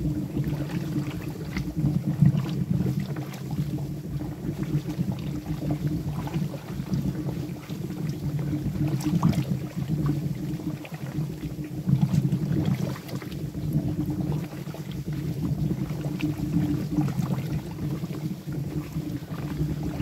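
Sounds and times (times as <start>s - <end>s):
molten wax boiling rumble: 0.0s - 20.0s.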